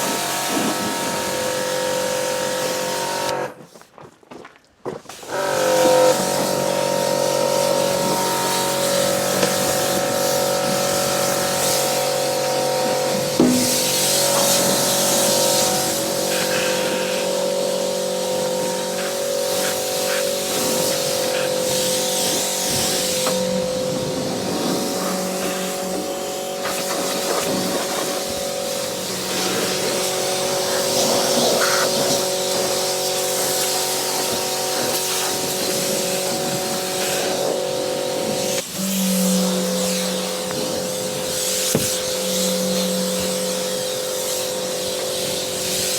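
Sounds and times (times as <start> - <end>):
pressure washer running: 0.0 - 3.6, 5.1 - 45.9
spray hissing: 5.4 - 45.9.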